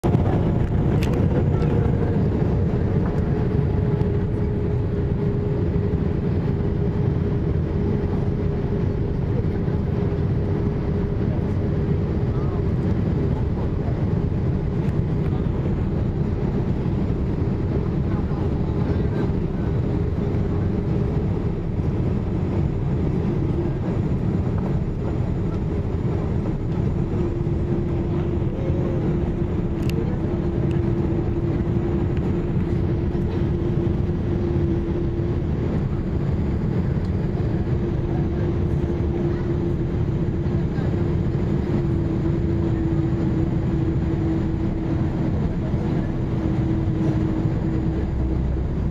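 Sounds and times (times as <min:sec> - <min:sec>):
airplane engine and airflow noise: 0:00.0 - 0:48.9
steady hum: 0:00.0 - 0:48.9.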